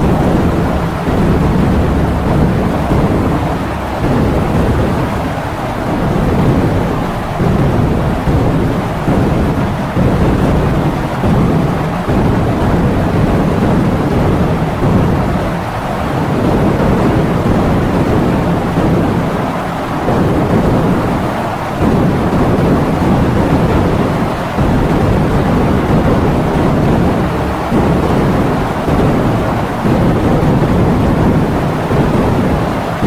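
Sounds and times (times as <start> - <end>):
heavy rain in strong wind: 0.0 - 33.0.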